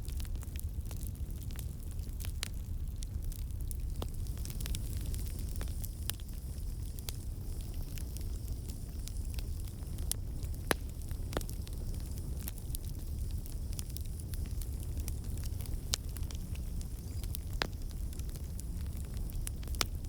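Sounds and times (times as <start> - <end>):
burning wood crackling and popping: 0.0 - 20.0
campfire flames rumbling: 0.0 - 20.0.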